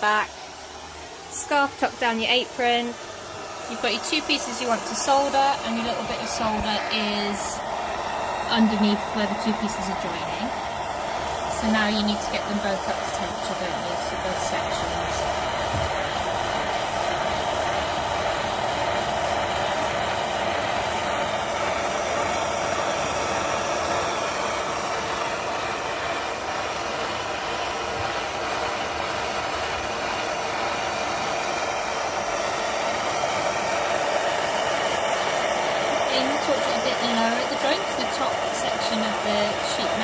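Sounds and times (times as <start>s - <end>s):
gas torch flame hissing: 0.0s - 40.0s.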